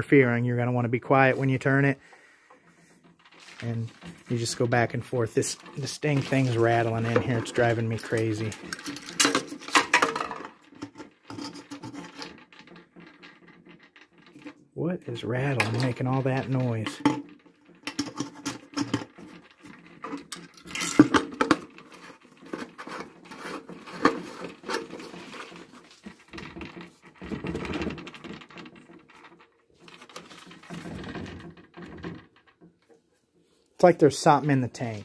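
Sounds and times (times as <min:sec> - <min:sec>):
wire rattling on flywheel: 0:00.0 - 0:33.0.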